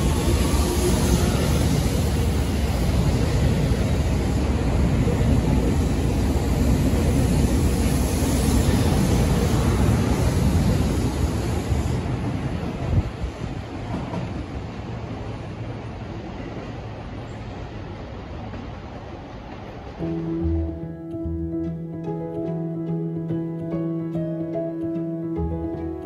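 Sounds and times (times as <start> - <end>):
electric train rumbling on rails: 0.0 - 26.0.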